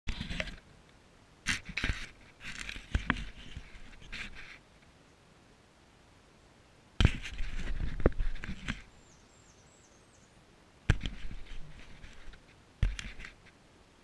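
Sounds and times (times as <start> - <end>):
rustling shrub leaves and twigs: 0.1 - 5.3, 7.0 - 14.0.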